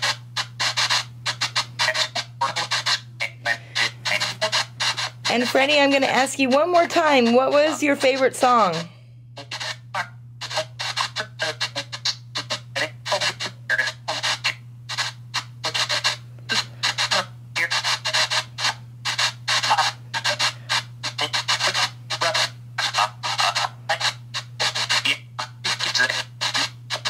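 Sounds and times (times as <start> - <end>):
chopped bursts of radio static: 0.0 - 27.0
steady low hum: 0.0 - 27.0.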